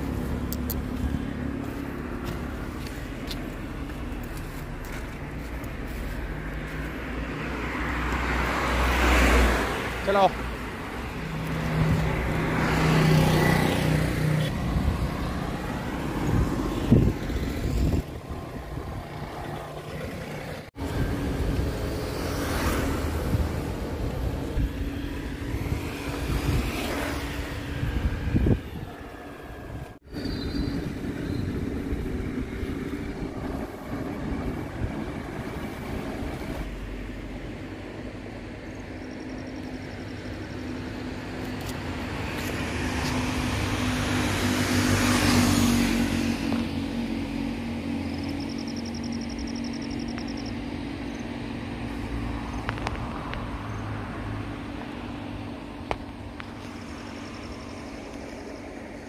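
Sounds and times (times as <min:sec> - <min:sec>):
road traffic hum: 0:00.0 - 0:59.0
vehicle passing: 0:00.0 - 0:59.0.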